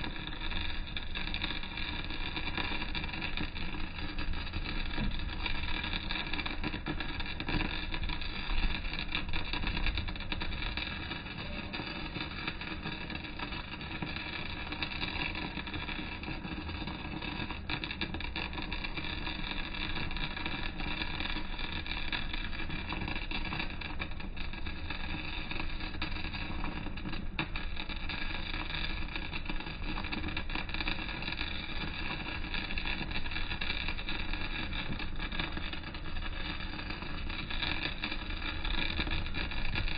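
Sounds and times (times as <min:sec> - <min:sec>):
welding arc crackle and hiss: 0:00.0 - 0:39.9.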